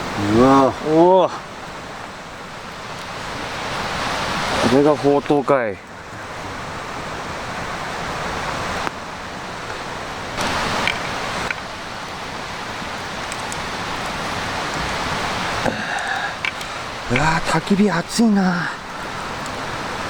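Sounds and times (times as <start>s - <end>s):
campfire hissing: 0.0s - 20.0s
faint fire crackles: 0.0s - 20.0s.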